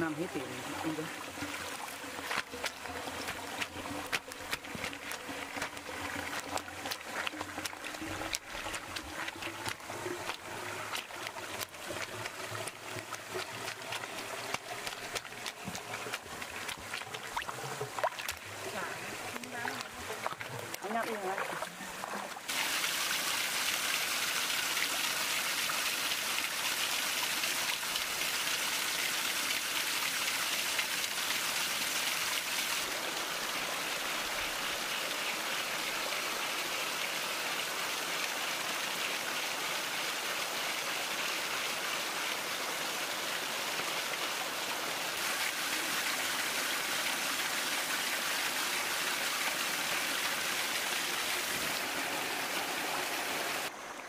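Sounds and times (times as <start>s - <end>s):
water jet spraying and splashing: 0.0s - 36.0s, 41.5s - 53.8s.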